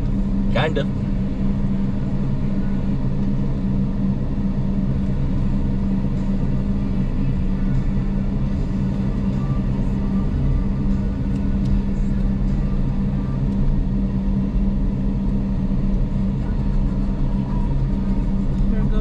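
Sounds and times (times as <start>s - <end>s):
car engine low drone: 0.0s - 19.0s.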